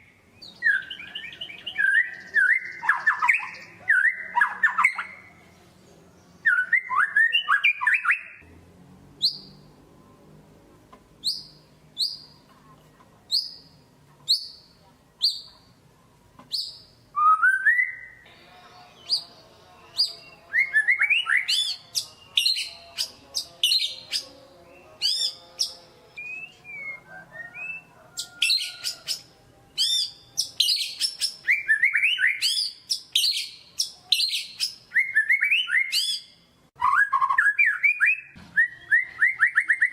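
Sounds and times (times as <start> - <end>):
songbird whistling and chattering: 0.4 - 5.3, 6.4 - 8.4, 11.2 - 12.4, 13.3 - 15.5, 16.5 - 18.3, 19.0 - 39.9.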